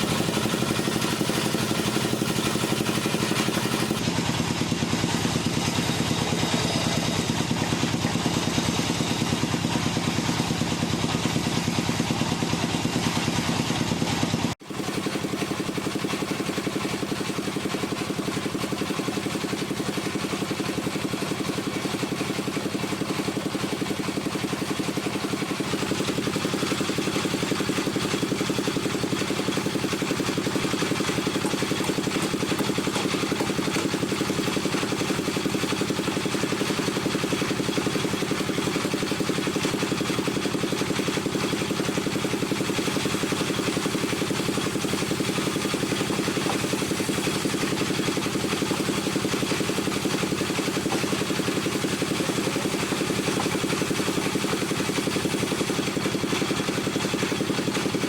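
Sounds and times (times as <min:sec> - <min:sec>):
wood lathe running: 0:00.0 - 0:04.2, 0:05.0 - 0:58.0.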